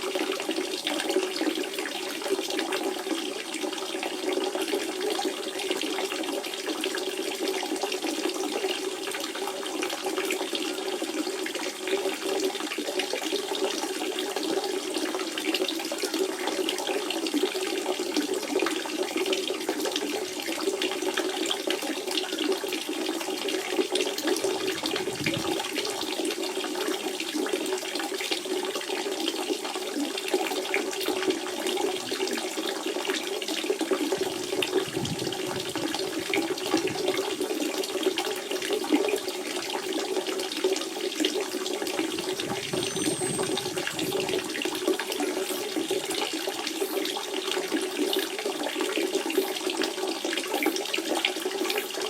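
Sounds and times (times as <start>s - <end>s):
spring water trickling: 0.0s - 52.0s.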